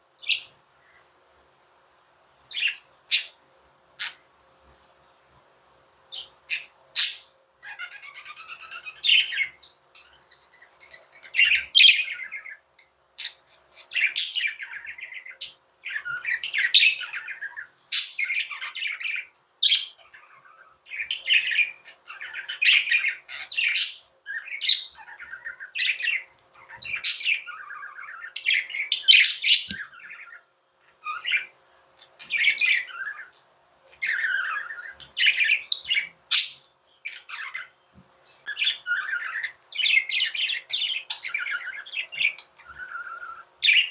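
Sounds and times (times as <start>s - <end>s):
budgerigars chattering and warbling: 4.0s - 4.2s, 6.1s - 12.6s, 13.2s - 43.9s.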